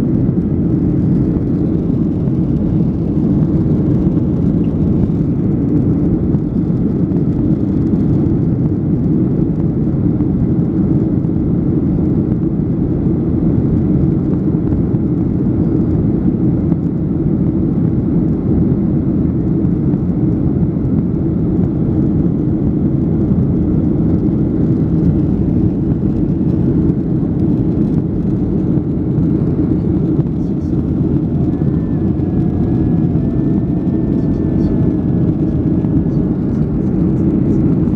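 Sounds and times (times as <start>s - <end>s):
airliner cabin drone: 0.0s - 37.9s.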